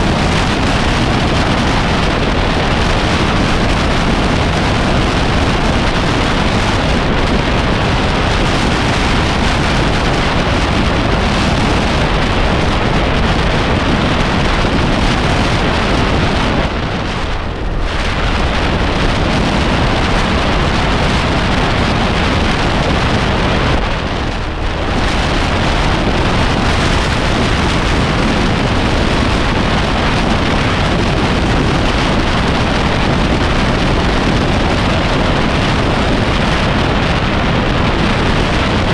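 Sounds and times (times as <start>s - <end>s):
road noise: 0.0s - 38.9s
wind rushing over microphone: 0.0s - 38.9s.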